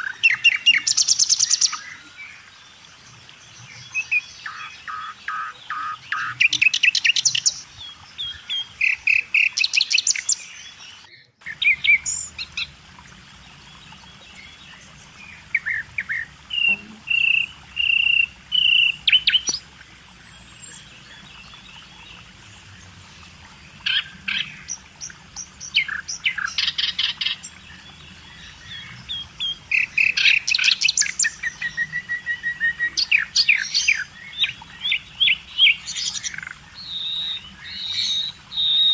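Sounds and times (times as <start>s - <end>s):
small birds chirping and singing: 0.0s - 38.9s.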